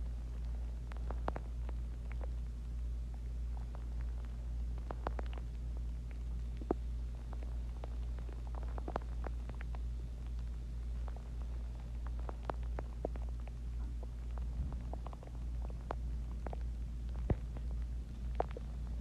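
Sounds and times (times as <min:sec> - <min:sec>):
low steady hum: 0:00.0 - 0:19.0
stomach gurgling: 0:00.0 - 0:19.0.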